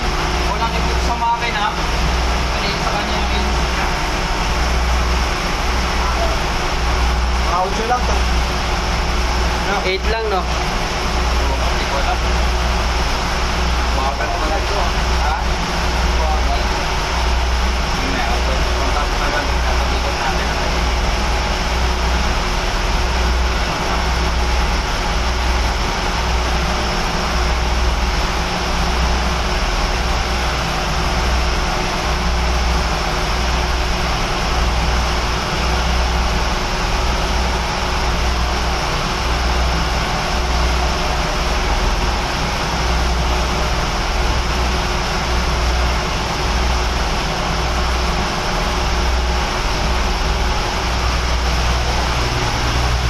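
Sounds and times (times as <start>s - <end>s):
marine engine running: 0.0s - 53.0s.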